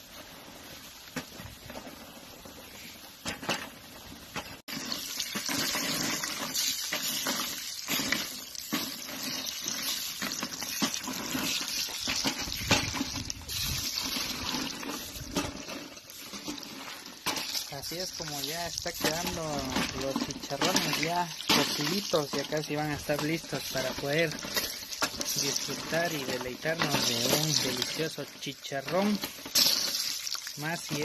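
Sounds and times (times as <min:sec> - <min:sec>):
pork frying and crackling: 0:00.0 - 0:31.0.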